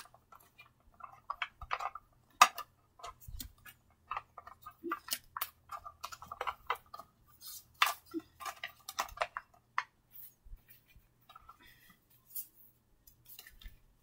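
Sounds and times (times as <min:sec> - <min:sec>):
cards and cardboard box handled: 0:00.0 - 0:11.6, 0:12.2 - 0:14.0.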